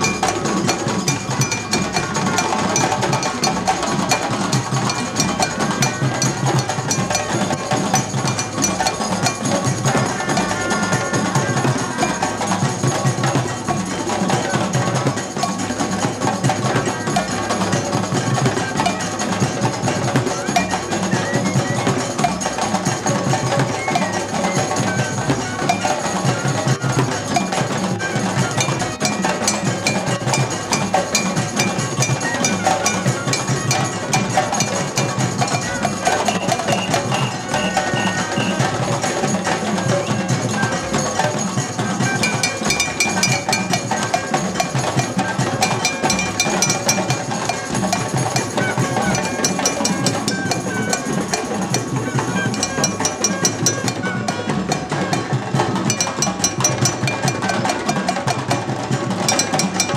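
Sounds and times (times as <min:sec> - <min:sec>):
hand drums playing: 0:00.0 - 0:59.9
high ringing tones: 0:00.0 - 0:59.9.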